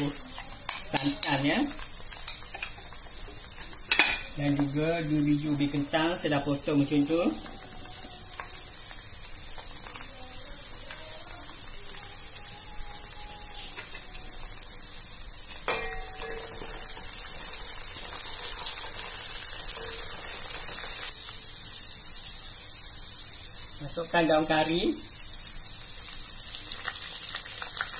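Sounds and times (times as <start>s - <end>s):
food sizzling in a wok: 0.0s - 27.9s.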